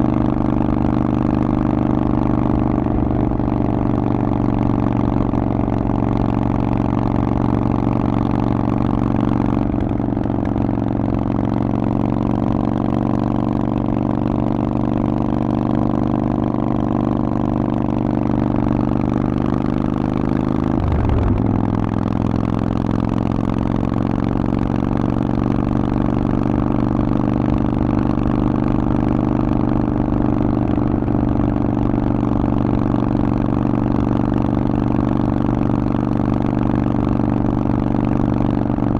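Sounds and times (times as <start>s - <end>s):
motorcycle engine riding: 0.0s - 38.9s.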